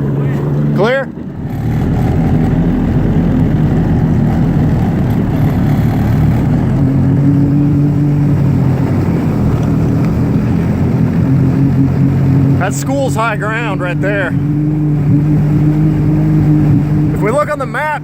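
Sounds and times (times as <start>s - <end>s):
motor engine humming: 0.0s - 18.0s
water washing: 2.4s - 18.0s.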